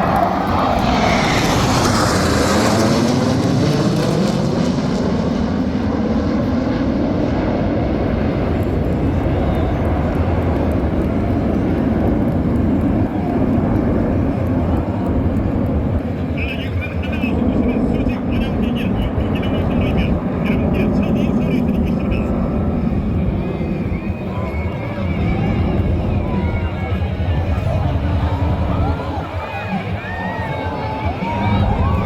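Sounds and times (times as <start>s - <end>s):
jet aircraft passing overhead: 0.0s - 32.0s.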